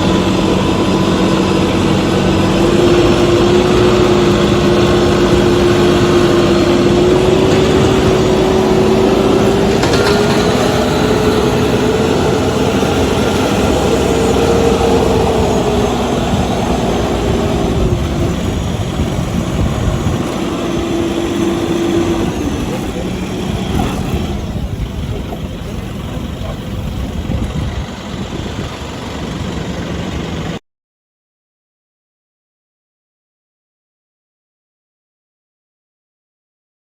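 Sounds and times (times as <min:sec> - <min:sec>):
small tractor engine running: 0:00.0 - 0:30.6.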